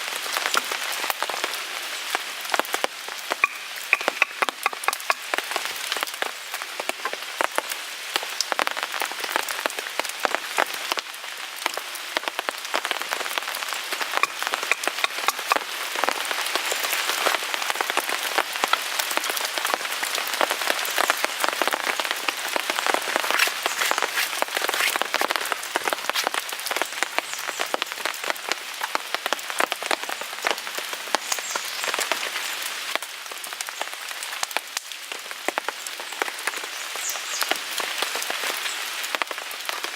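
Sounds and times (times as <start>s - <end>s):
rain pattering on a tarp: 0.0s - 39.9s.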